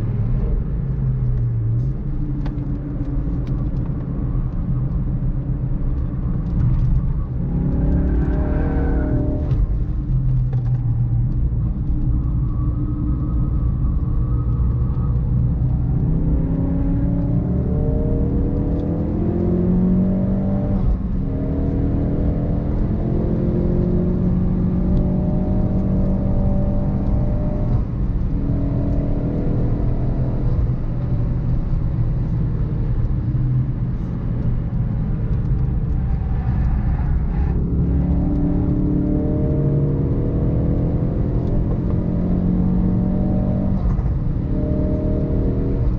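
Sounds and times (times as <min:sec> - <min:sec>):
car engine accelerating hard: 0:00.0 - 0:45.9
road and tyre rumble: 0:00.0 - 0:45.9.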